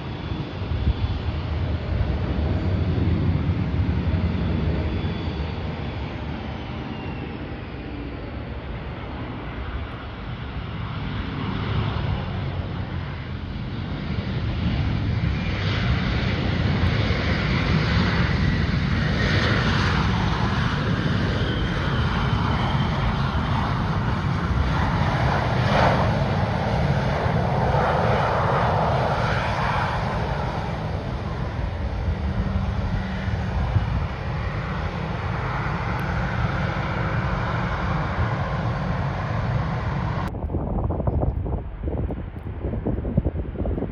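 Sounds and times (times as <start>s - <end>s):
airliner engines running: 0.0s - 43.9s.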